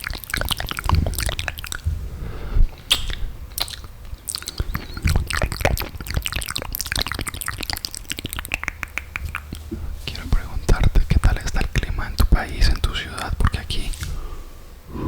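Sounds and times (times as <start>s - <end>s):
wet mouth clicks and smacks: 0.0s - 1.9s, 2.6s - 14.2s.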